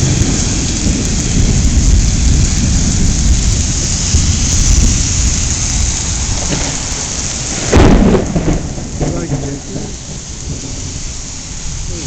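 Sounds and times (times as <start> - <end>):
steady rain: 0.0 - 12.0
thunderclap and rumbling: 0.0 - 12.0.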